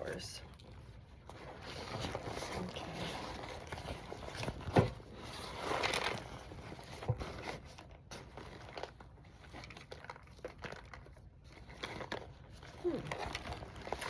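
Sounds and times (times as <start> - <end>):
yarn bundle rustling: 0.0 - 14.0.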